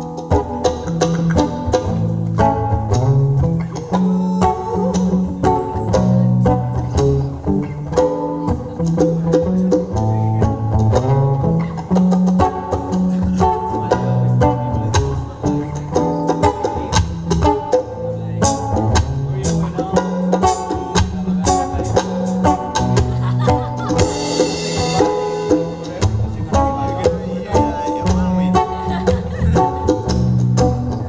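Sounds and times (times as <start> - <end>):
acoustic guitar: 0.0 - 31.0
djembe drum strokes: 0.0 - 31.0
keyboard: 0.0 - 31.0.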